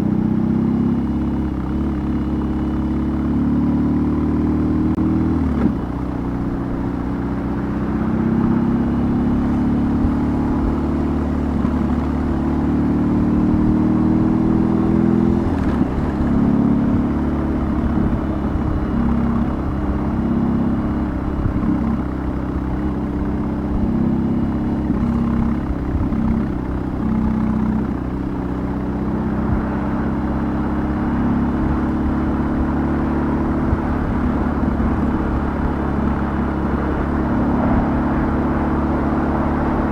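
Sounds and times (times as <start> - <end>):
motorcycle engine on the road: 0.0 - 39.9.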